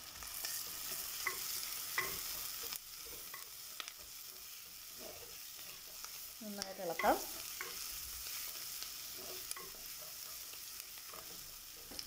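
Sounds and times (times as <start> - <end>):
onions sizzling in hot oil: 0.0 - 12.0
wooden spoon stirring and scraping: 0.4 - 12.0.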